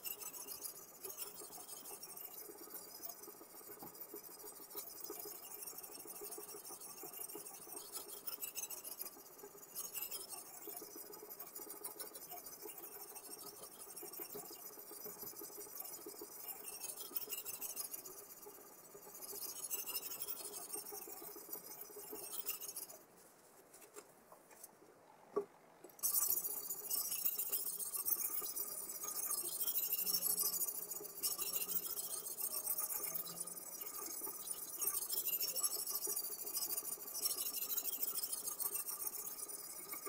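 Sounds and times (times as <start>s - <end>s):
sharpening stone scraping knife: 0.0s - 18.3s, 19.1s - 23.0s, 26.0s - 40.0s.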